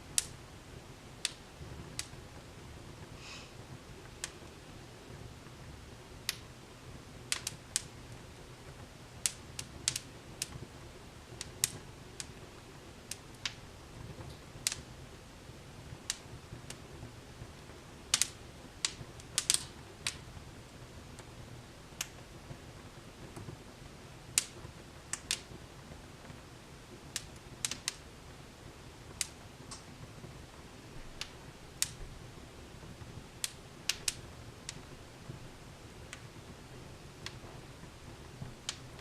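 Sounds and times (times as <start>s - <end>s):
fire crackling: 0.0s - 39.0s
low steady rumble: 0.0s - 39.0s.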